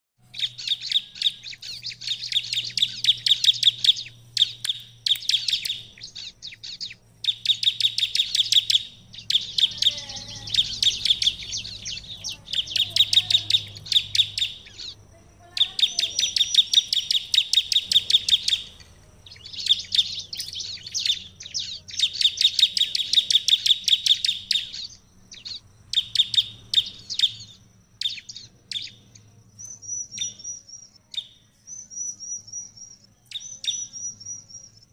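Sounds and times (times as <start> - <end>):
bird singing rapid high notes: 0.2 - 34.9
faint low hum: 0.2 - 34.9.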